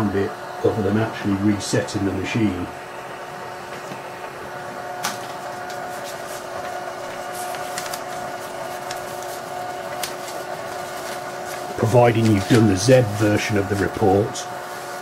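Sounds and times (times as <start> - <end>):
receipt printer whining: 0.0 - 15.0.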